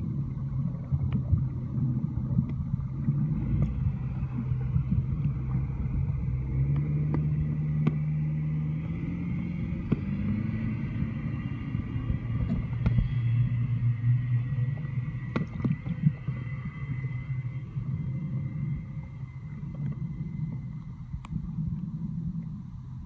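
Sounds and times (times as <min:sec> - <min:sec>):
underwater motorboat engine drone: 0:00.0 - 0:23.0.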